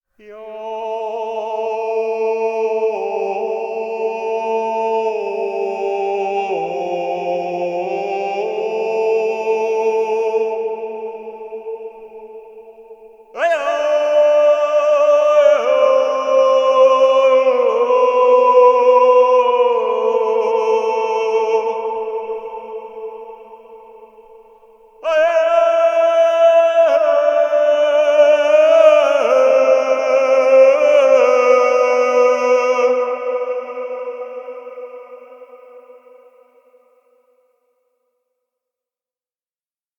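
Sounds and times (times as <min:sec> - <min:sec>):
voices chanting sustained chord: 0:00.2 - 0:37.6.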